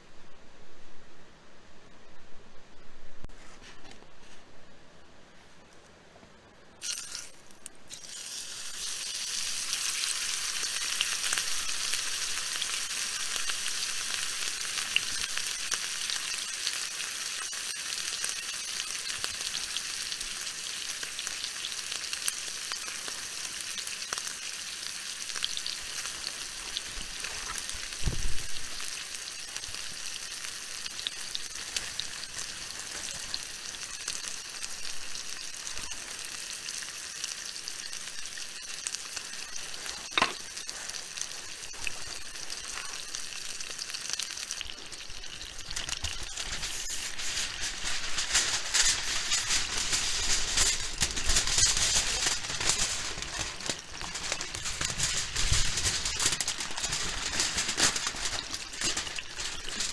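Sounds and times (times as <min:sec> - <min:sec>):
food sizzling in a pan: 0:06.8 - 0:59.9.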